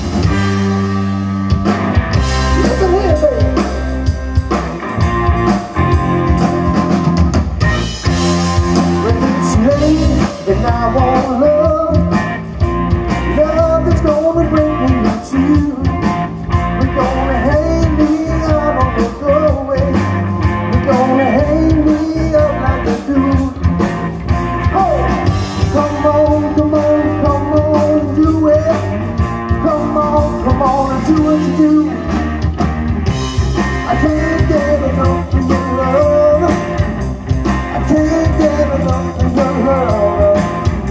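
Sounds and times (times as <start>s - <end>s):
rock band playing loud: 0.0s - 40.9s.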